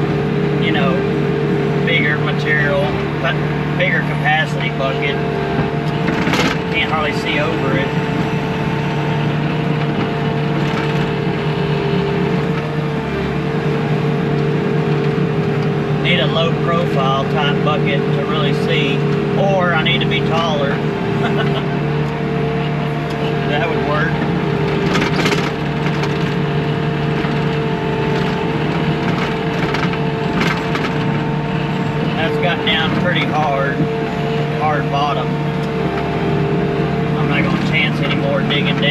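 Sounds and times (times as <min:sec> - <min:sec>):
diesel loader engine running: 0:00.0 - 0:38.9.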